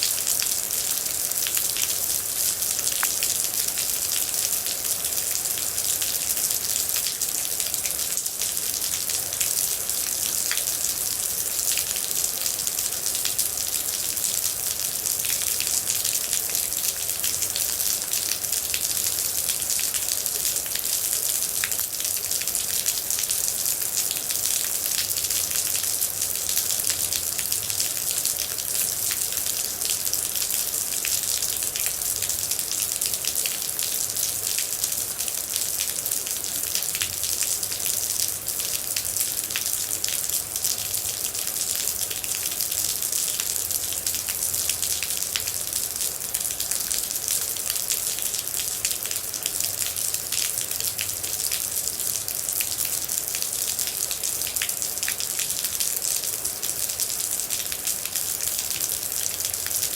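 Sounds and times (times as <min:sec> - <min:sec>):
raindrops ticking on a surface: 0:00.0 - 0:59.9
steady rain hiss: 0:00.0 - 0:59.9.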